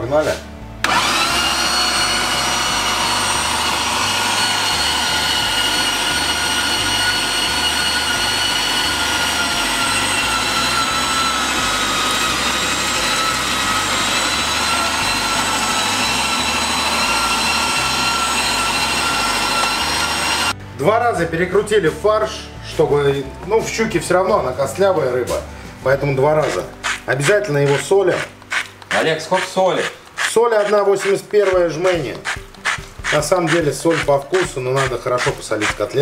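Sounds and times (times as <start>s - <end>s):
electric meat grinder running: 0.8s - 20.6s, 26.4s - 36.0s.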